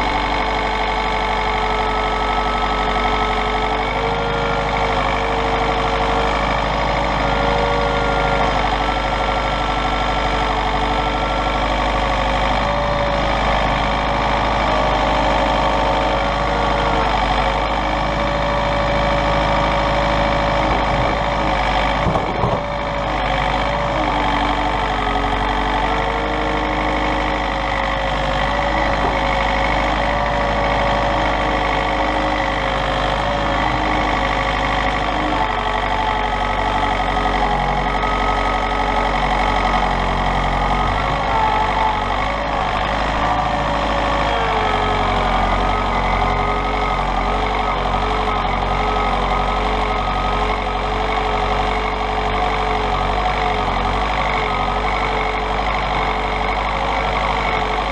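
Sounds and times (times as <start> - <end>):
diesel tractor engine running: 0.0 - 57.9.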